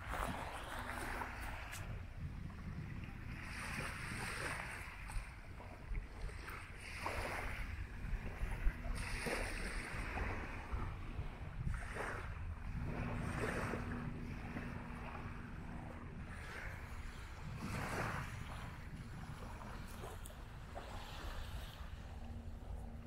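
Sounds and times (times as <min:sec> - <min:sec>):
small waves washing onto beach: 0:00.0 - 0:23.0
wind rumbling on microphone: 0:00.0 - 0:23.0.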